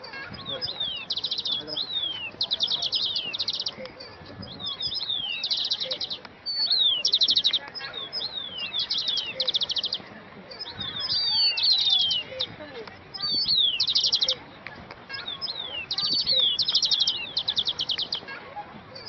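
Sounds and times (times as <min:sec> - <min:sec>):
birds singing: 0:00.0 - 0:19.0.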